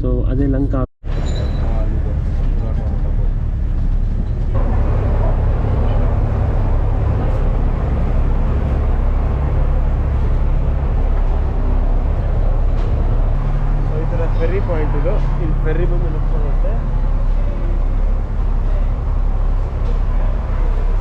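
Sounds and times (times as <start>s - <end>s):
ferry engines droning: 1.1s - 21.0s.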